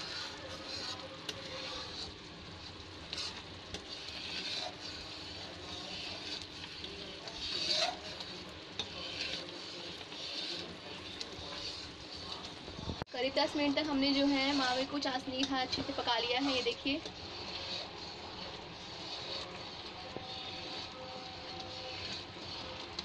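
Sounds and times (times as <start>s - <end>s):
spoon scraping thick mixture: 0.0s - 23.0s
steady sizzle: 0.0s - 23.0s.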